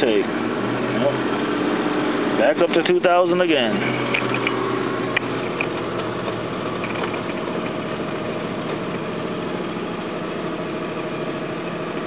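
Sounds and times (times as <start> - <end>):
car engine at raised idle: 0.0 - 12.0.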